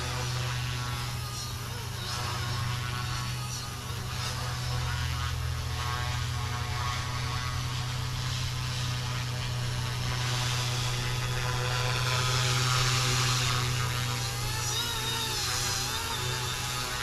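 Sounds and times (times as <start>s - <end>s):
rc helicopter motor and rotors: 0.0s - 17.0s.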